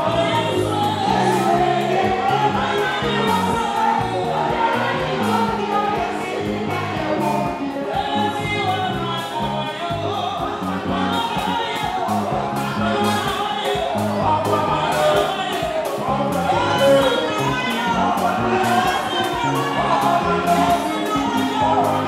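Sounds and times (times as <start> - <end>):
bass line: 0.0 - 22.0
voices singing along: 0.0 - 22.0
woman singing into a microphone: 0.0 - 22.0.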